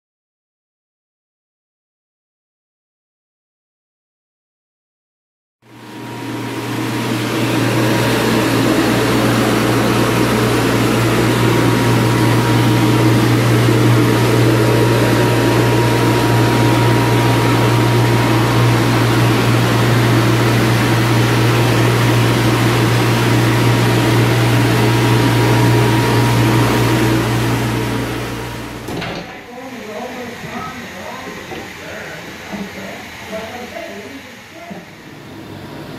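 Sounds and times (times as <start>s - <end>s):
dust collector blower running: 5.6s - 35.9s.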